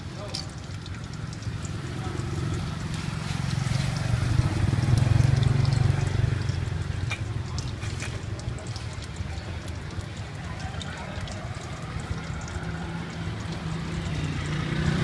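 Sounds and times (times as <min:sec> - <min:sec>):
liquid simmering in bowl: 0:00.0 - 0:15.0
vehicle engine rumble passing: 0:00.0 - 0:15.0.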